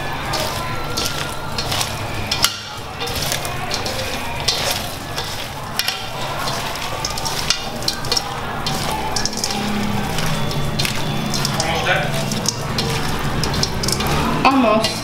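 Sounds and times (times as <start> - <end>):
food tossed by hand in bowl: 0.0 - 15.0.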